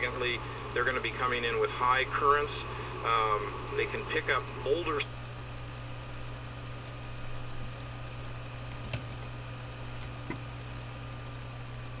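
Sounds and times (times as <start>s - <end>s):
faint ticking: 0.0s - 12.0s
steady low hum: 0.0s - 12.0s.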